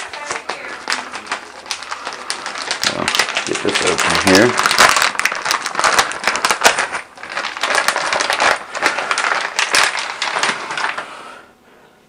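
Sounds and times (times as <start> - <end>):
small hard pieces rattling: 0.0 - 11.0
plastic packaging rustling: 0.0 - 11.5.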